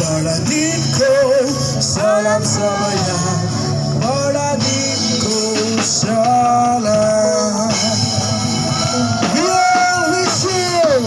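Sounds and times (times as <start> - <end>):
song with gliding vocals: 0.0 - 11.0.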